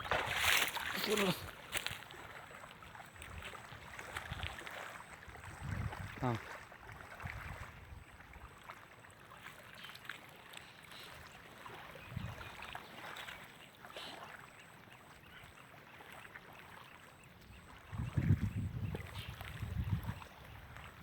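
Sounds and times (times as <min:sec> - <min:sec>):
faint water lapping: 0:00.0 - 0:21.0.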